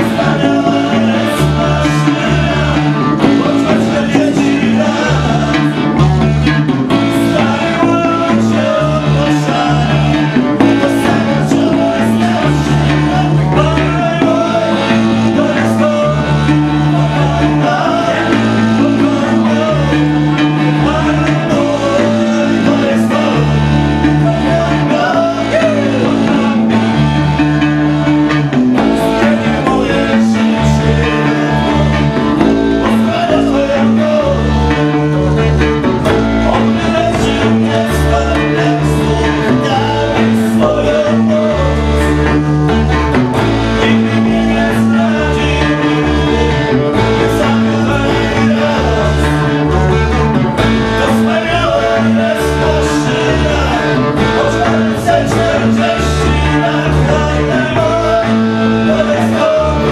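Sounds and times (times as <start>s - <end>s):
blues-rock electric guitars: 0.0s - 59.9s.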